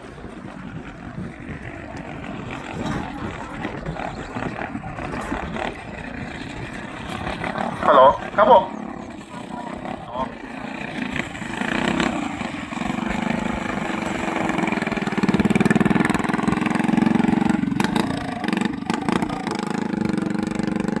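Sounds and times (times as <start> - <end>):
racing boat engine running: 0.0 - 21.0.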